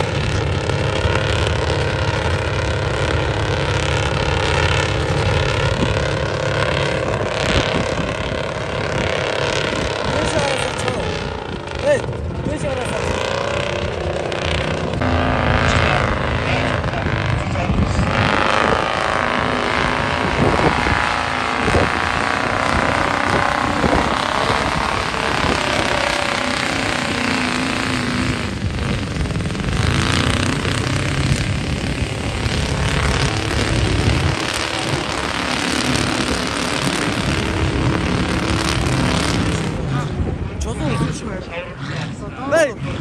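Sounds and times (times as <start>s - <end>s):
truck engines droning under load: 0.0s - 43.0s.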